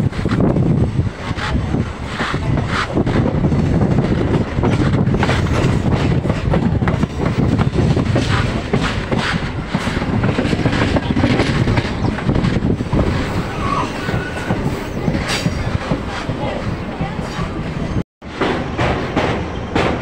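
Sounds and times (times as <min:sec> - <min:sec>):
train wheels rumbling: 0:00.0 - 0:20.0
wheels clattering on rails: 0:00.0 - 0:20.0.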